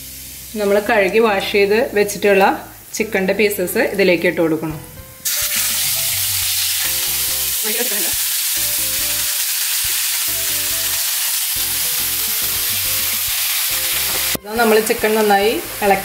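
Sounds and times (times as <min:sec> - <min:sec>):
chicken sizzling in hot oil: 0:00.0 - 0:04.1, 0:05.2 - 0:16.0.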